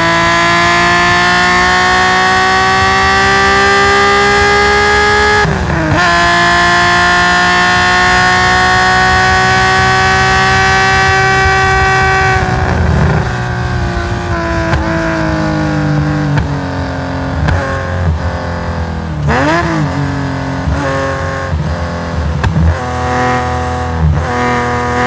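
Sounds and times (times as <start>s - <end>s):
blipped downshifts: 0.0s - 23.5s
race car engine at high revs: 0.0s - 25.0s.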